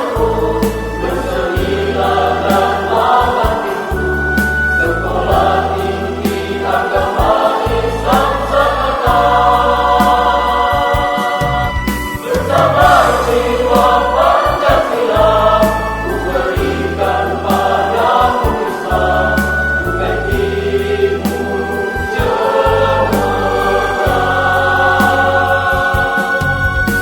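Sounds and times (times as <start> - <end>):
choir singing a hymn: 0.0 - 27.0
low bass notes: 0.2 - 27.0.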